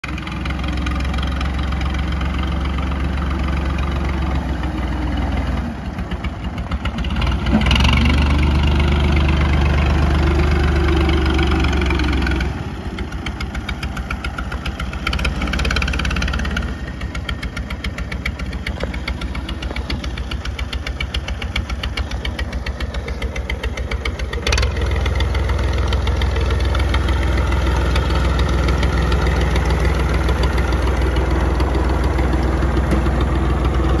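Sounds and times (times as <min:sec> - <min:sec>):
backhoe loader engine running: 0:00.0 - 0:34.0.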